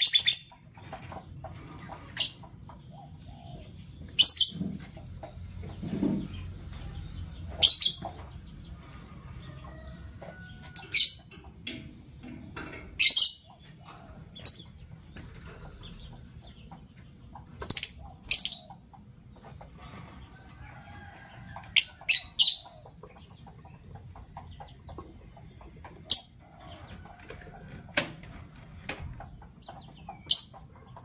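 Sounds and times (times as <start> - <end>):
lovebirds chirping: 0.0 - 11.8, 12.5 - 27.9, 28.5 - 31.0.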